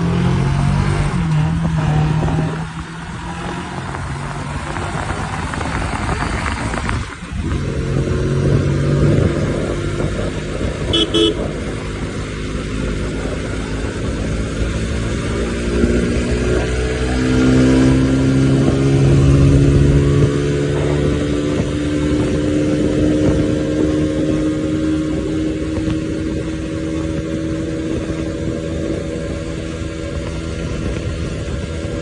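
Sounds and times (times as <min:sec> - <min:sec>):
motorcycle engine accelerating: 0:00.0 - 0:32.0
road and wind noise: 0:00.0 - 0:32.0.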